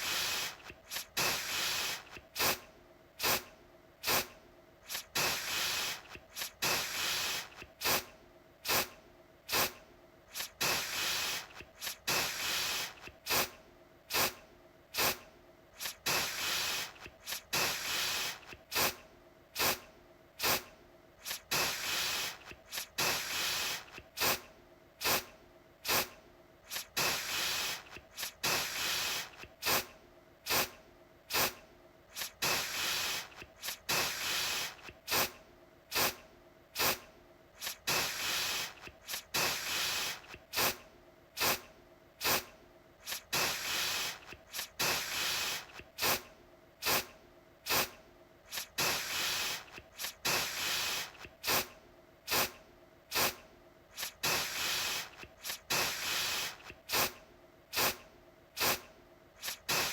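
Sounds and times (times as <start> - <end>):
aerosol deodorant spraying: 0.0 - 2.6, 3.2 - 14.4, 15.0 - 15.2, 15.8 - 19.0, 19.6 - 19.8, 20.4 - 26.1, 26.7 - 29.9, 30.5 - 36.2, 36.8 - 37.0, 37.6 - 40.8, 41.4 - 51.7, 52.3 - 58.0, 58.6 - 58.8, 59.4 - 59.9.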